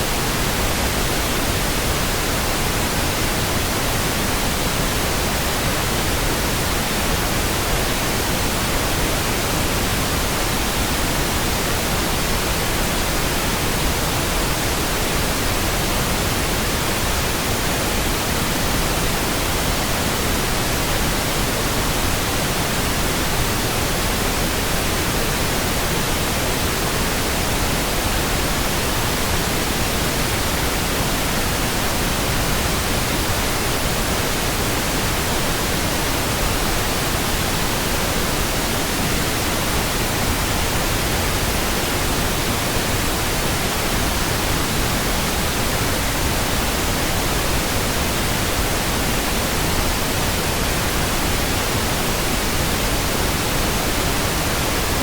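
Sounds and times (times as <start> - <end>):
steady pink noise hiss: 0.0 - 55.0.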